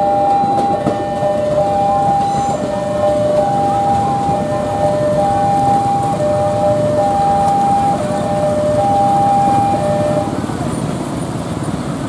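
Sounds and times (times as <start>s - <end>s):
level-crossing two-tone alarm: 0.0s - 10.4s.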